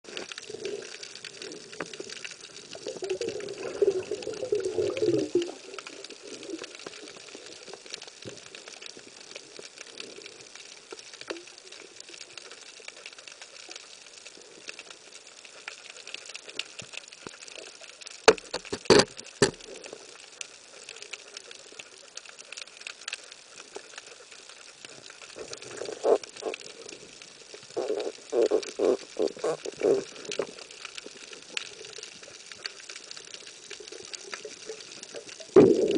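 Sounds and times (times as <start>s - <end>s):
underwater reef crackle: 0.0s - 35.9s.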